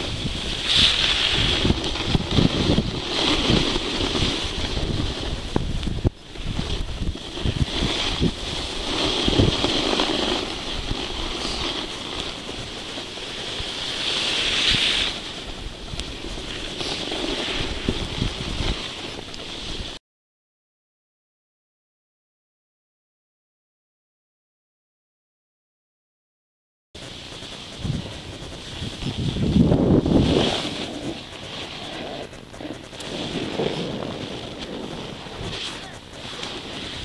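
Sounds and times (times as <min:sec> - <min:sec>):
skis hissing through snow: 0:00.0 - 0:20.0, 0:27.0 - 0:37.0
wind rumbling on microphone: 0:00.0 - 0:20.0, 0:27.1 - 0:37.0.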